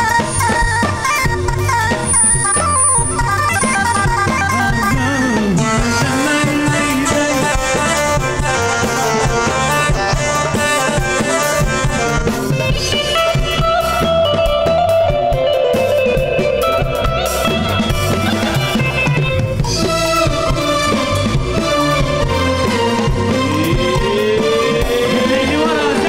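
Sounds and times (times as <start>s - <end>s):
bass: 0.0s - 26.0s
drum kit: 0.0s - 26.0s
keyboard melody: 0.0s - 26.0s.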